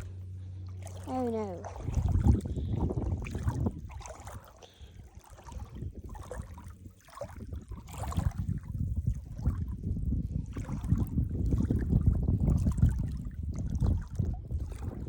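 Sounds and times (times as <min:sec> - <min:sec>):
legs wading through water: 0:00.0 - 0:15.0
water sloshing and splashing: 0:00.0 - 0:15.0.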